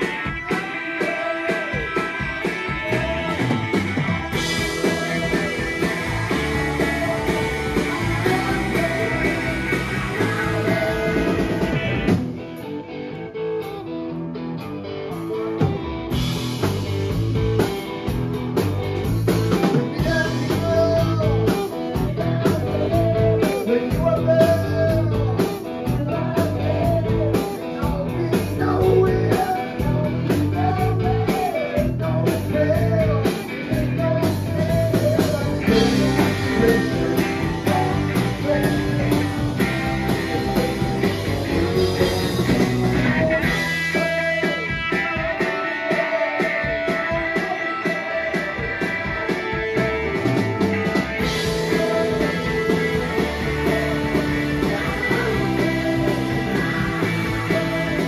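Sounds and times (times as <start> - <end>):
lead vocal singing: 0.0 - 12.2, 19.5 - 58.0
drum kit: 0.0 - 12.8, 15.1 - 58.0
bass: 0.0 - 58.0
electric guitars: 0.0 - 58.0.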